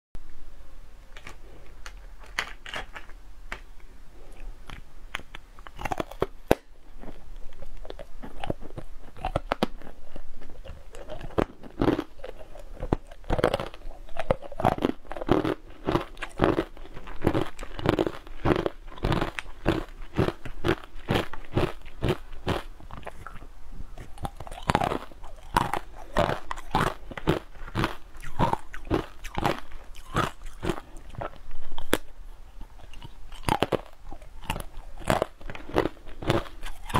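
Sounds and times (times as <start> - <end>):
biting and chewing crunchy food: 1.1 - 36.9.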